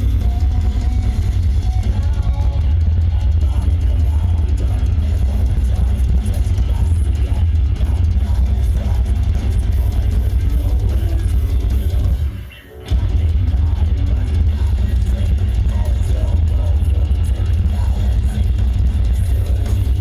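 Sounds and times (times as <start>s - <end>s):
distorted electric guitars: 0.0s - 20.0s
heavy bass drum: 0.0s - 20.0s.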